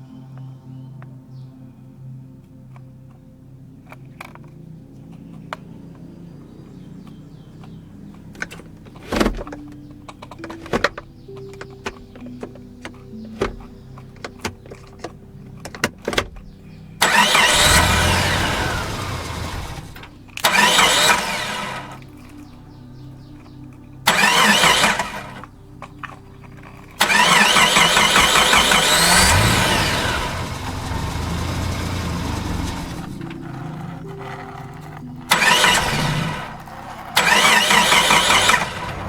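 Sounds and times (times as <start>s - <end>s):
car engine starting and revving: 3.8s - 39.0s.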